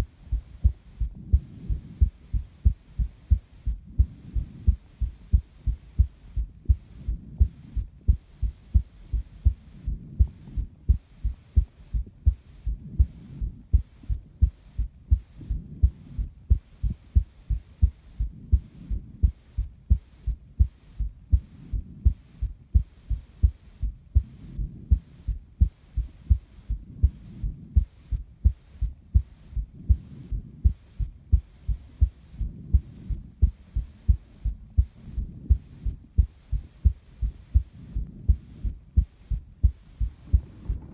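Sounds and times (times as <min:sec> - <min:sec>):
heartbeat thumps: 0:00.0 - 0:40.9
soft breathing: 0:00.0 - 0:40.9.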